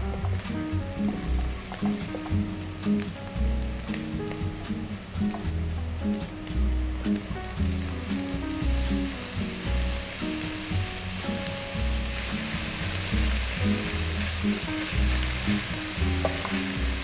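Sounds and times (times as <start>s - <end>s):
background music with bass: 0.0s - 17.0s
meat sizzling in a wok: 0.0s - 17.0s.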